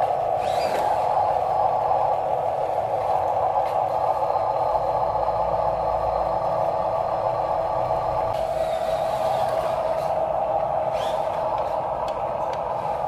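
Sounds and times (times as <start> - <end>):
deeper hum: 0.0 - 13.0
small electric motors whining: 0.0 - 13.0.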